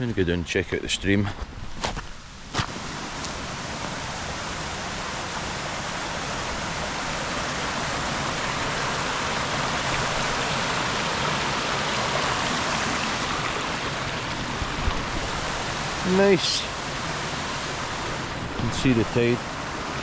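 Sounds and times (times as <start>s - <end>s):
rushing stream water: 2.2s - 20.0s.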